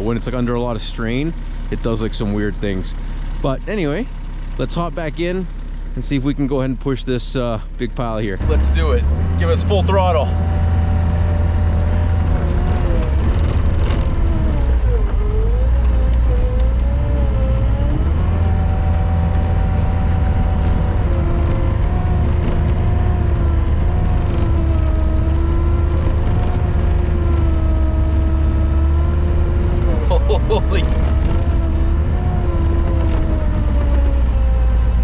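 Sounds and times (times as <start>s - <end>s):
diesel engine under load: 0.0s - 35.0s
engine whine wavering in pitch: 0.0s - 35.0s.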